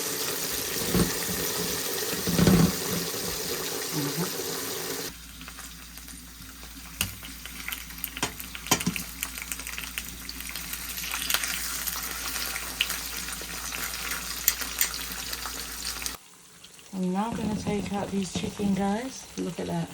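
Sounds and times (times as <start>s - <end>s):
chicken frying in hot oil: 0.0s - 19.6s.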